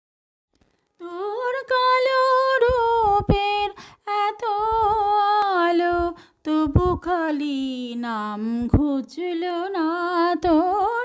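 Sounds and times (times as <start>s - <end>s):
woman singing devotional song: 1.0s - 11.0s.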